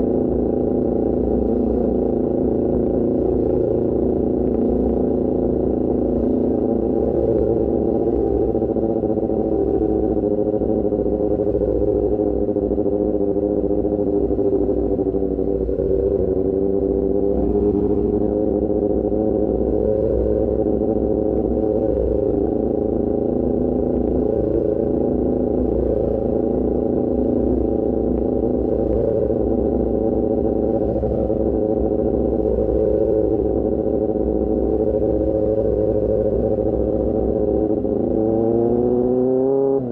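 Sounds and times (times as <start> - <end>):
motorcycle engine cruising: 1.0 - 39.9.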